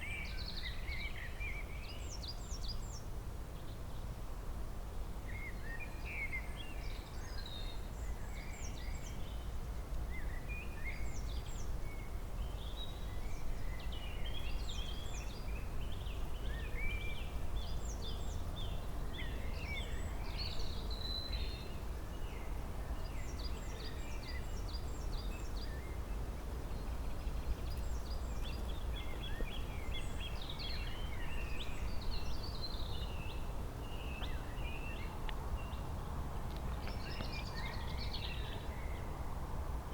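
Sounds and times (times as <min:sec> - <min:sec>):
songbirds singing and chirping: 0:00.0 - 0:04.2, 0:05.3 - 0:39.9.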